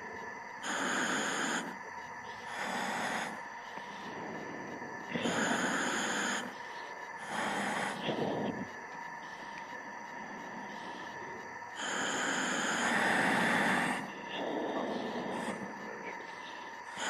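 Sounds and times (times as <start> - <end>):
faint steady hum: 0.0 - 17.0
diver breathing in a helmet: 2.4 - 17.0.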